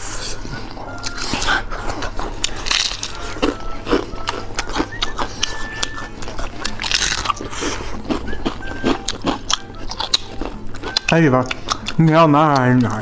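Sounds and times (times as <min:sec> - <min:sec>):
crunching and chewing fried food: 0:00.0 - 0:13.0.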